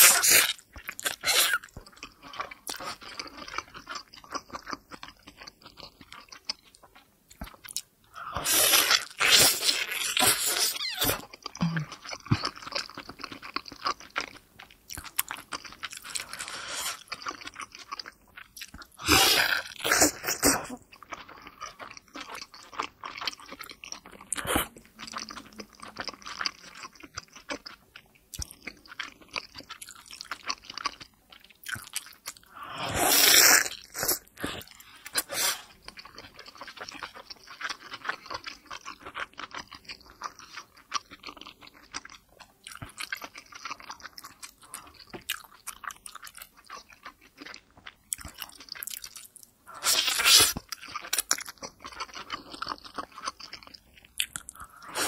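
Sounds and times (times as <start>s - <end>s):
chewing dumpling: 0.0s - 55.0s.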